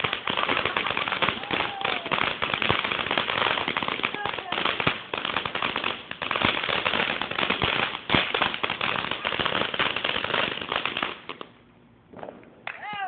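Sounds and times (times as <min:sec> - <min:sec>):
firework bangs: 0:00.0 - 0:13.0
firework crackling pops: 0:00.0 - 0:13.0.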